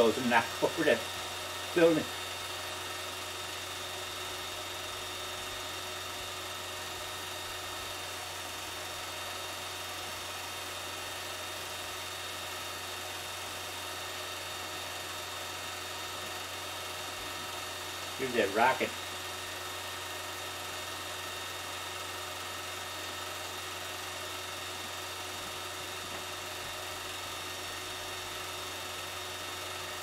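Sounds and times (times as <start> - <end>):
whirring hum with hiss: 0.0 - 30.0.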